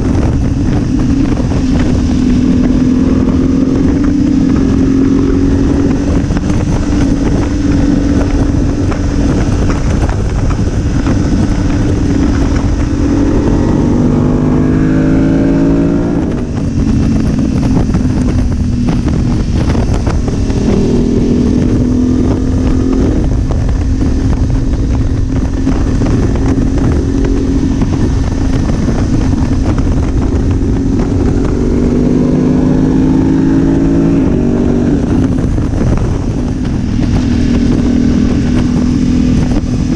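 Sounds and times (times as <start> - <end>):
low rushing noise: 0.0 - 39.9
motorcycle engine running: 0.0 - 39.9.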